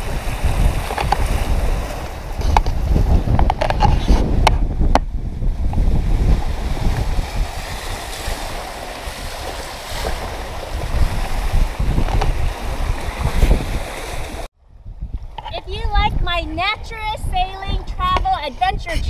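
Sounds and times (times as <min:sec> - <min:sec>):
water rushing past hulls: 0:00.0 - 0:17.9
wind buffeting microphone: 0:00.0 - 0:19.0.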